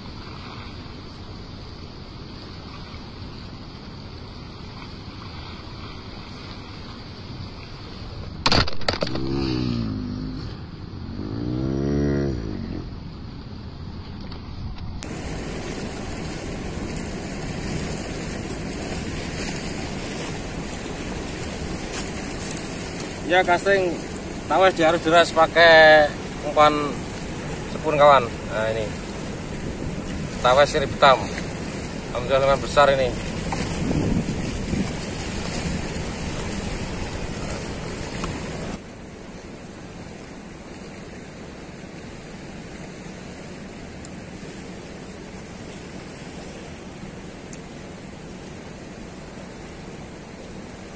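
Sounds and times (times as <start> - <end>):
fast river current rushing: 0.0 - 10.5, 15.0 - 50.9.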